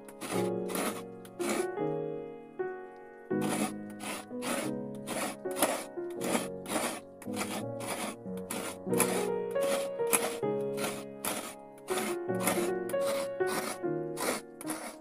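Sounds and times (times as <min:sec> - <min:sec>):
coconut grater rasping: 0:00.0 - 0:01.8, 0:03.4 - 0:15.0
background music: 0:00.0 - 0:15.0.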